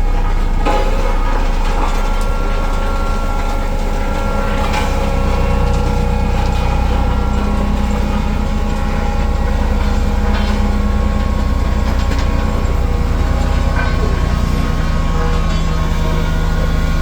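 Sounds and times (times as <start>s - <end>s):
compaction machine engine drone: 0.0s - 17.0s.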